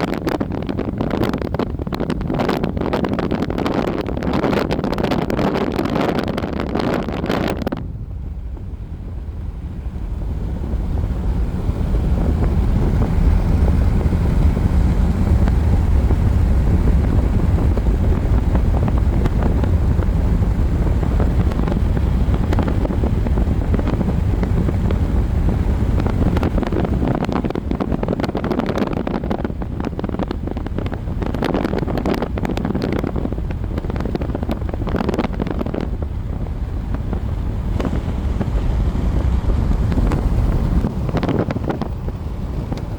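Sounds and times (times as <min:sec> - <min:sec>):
strong wind on microphone: 0:00.0 - 0:42.9.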